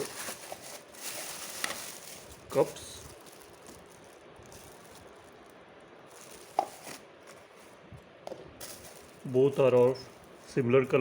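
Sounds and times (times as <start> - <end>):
handling of fan parts: 0.0 - 5.4, 6.1 - 10.6
low steady hiss: 0.0 - 11.0.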